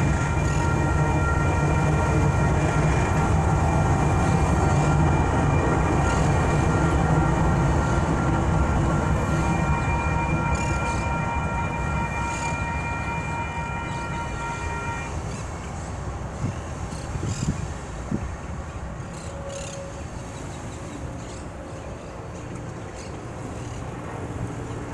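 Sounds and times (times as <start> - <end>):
crossing warning bells: 0.0 - 24.9
freight train rumble: 0.0 - 24.9.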